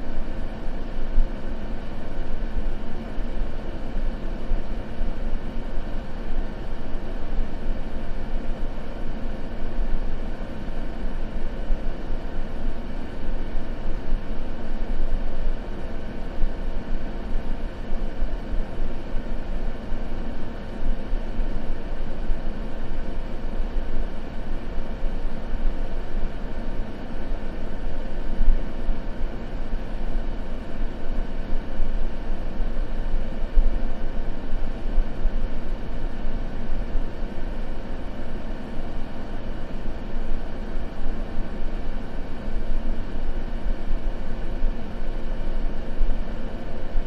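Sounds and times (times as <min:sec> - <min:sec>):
steady white noise hiss: 0:00.0 - 0:47.0.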